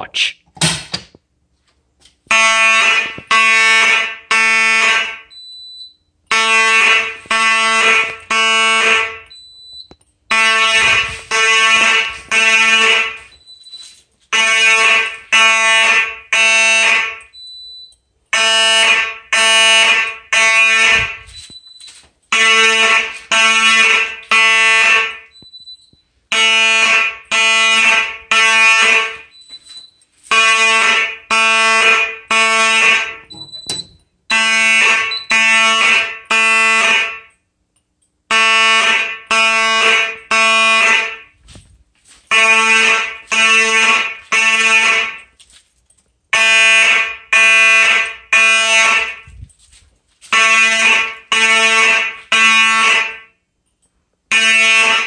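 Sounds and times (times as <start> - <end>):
fire alarm horn blasts: 2.2 - 37.5, 38.2 - 41.4, 42.3 - 45.4, 46.3 - 49.4, 50.2 - 53.5, 54.3 - 55.0.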